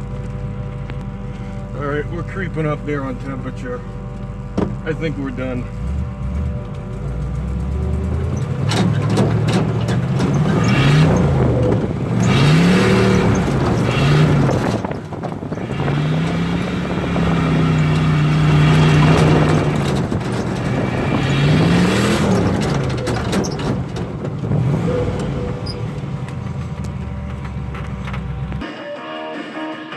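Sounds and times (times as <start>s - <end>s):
car engine revving: 0.0s - 28.6s.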